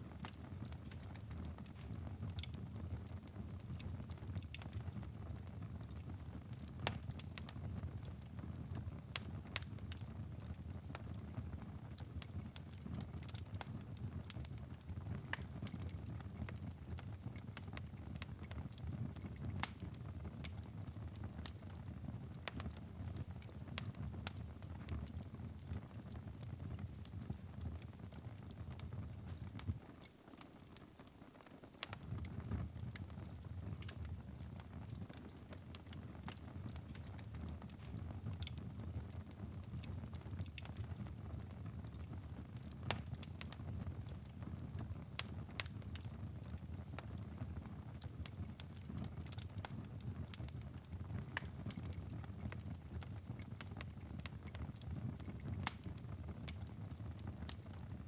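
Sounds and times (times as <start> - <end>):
low rumble of fire: 0.0 - 30.7, 31.8 - 58.0
wood fire crackling and popping: 0.0 - 58.0.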